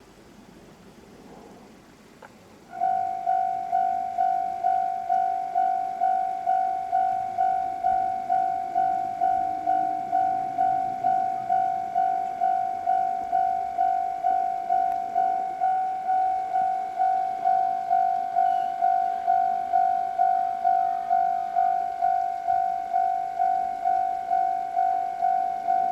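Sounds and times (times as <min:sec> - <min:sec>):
level crossing alarm bell: 0:02.7 - 0:25.9.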